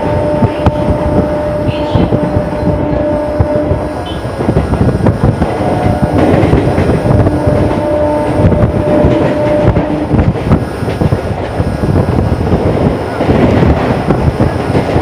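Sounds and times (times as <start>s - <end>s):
train wheels clattering over rails: 0.0s - 15.0s.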